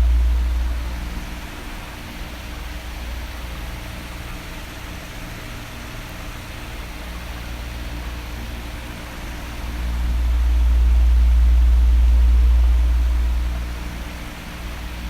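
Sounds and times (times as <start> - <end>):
electric fan air rush: 0.0 - 4.4, 7.3 - 15.0
fan motor hum: 0.0 - 15.0.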